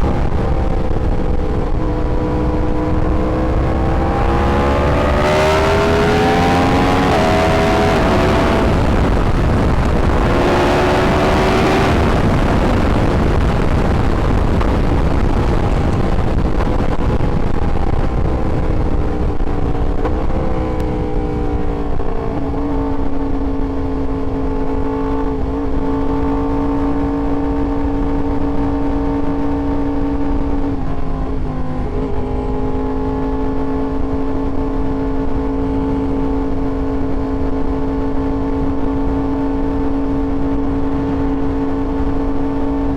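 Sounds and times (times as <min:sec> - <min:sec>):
motorcycle engine running: 0:00.0 - 0:42.9
rush of noise: 0:00.0 - 0:42.9.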